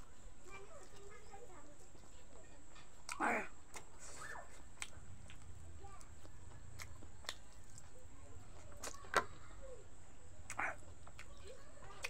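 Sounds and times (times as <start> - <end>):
steady low hum: 0.0 - 11.3
person chewing food: 0.0 - 12.0.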